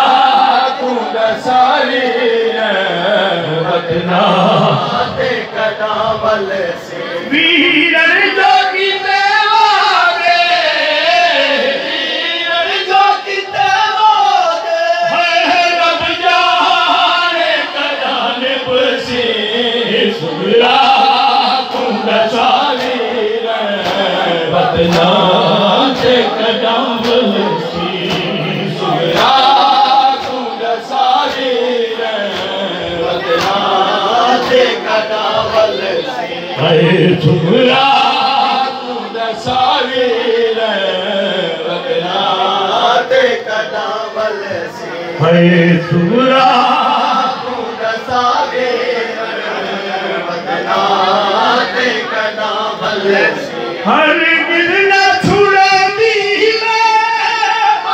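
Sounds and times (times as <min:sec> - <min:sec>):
man chanting a lament into microphone: 0:00.0 - 0:57.9
men chanting in chorus: 0:00.0 - 0:57.9.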